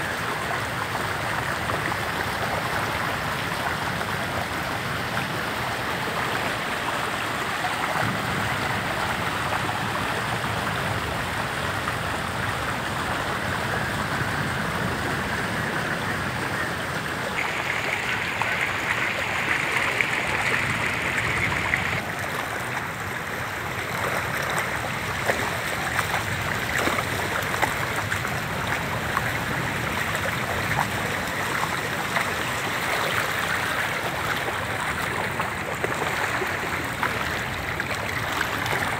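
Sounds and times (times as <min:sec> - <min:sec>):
seawater rushing along a lane: 0:00.0 - 0:38.9.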